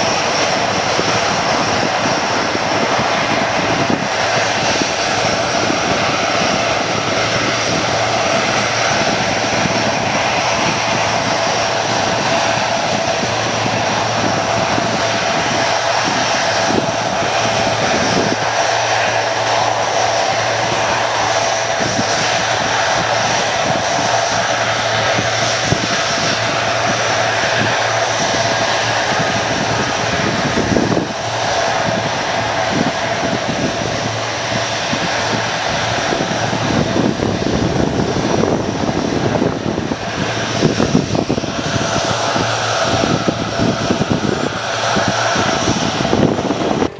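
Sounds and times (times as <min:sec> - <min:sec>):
high turbine whine: 0:00.0 - 0:46.9
propeller drone: 0:00.0 - 0:46.9.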